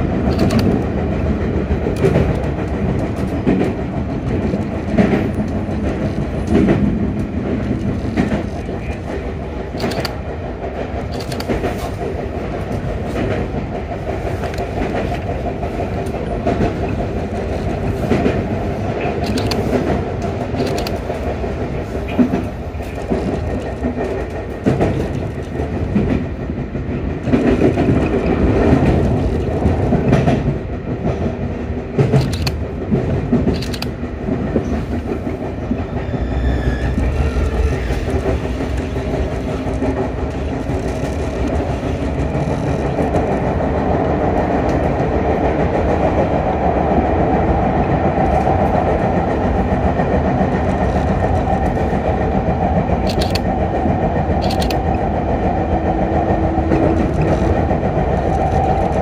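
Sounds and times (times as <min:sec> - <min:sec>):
wheels clicking over rail joints: 0:00.0 - 0:47.3, 0:48.0 - 0:59.0
electric train rumbling: 0:00.0 - 0:59.0.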